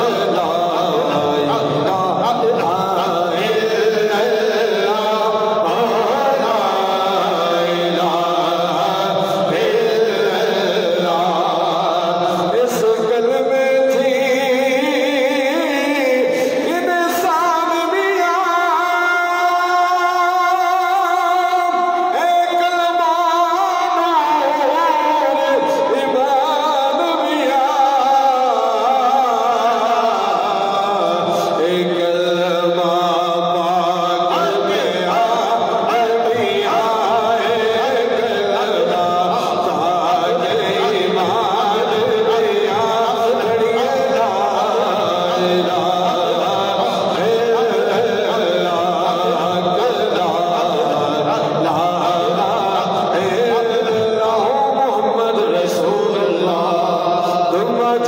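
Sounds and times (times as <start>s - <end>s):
men chanting together: 0.0s - 58.0s.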